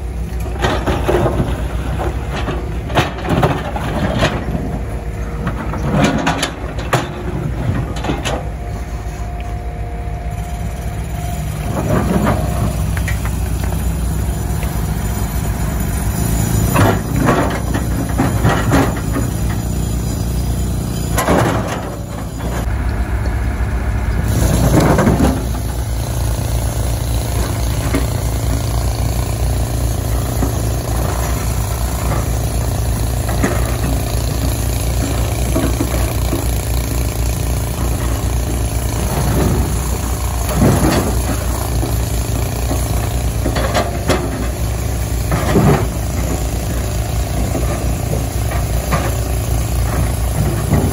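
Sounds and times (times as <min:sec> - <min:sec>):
excavator diesel engine running: 0:00.0 - 0:50.9
hydraulic whine: 0:00.0 - 0:50.9.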